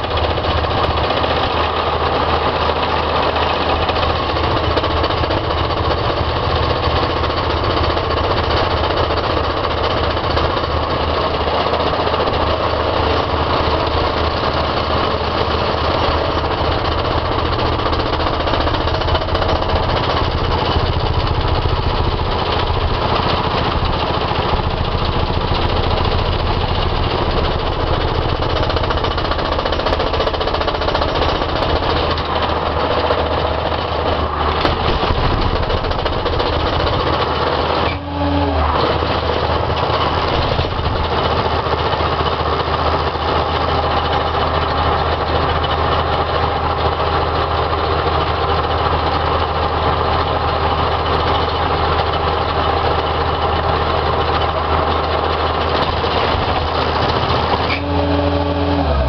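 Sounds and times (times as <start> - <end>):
loader engine running: 0.0 - 59.0
plate compactor vibrating on gravel: 0.0 - 59.0.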